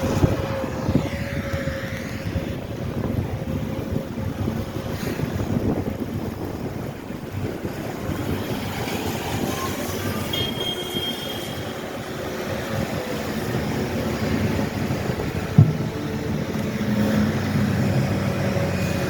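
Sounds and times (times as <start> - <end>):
snowplow trucks rumbling: 0.0 - 19.0
wind on microphone: 0.0 - 19.0.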